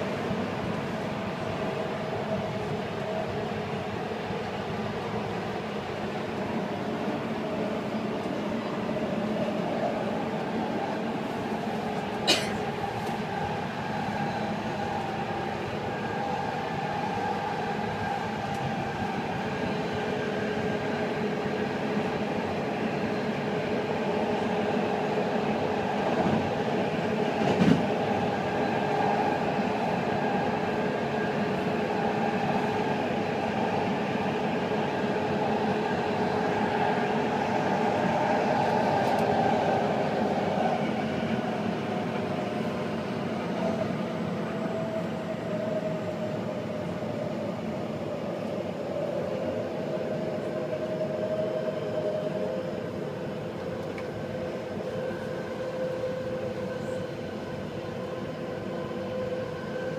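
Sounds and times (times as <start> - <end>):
train car rumble: 0.0 - 59.9.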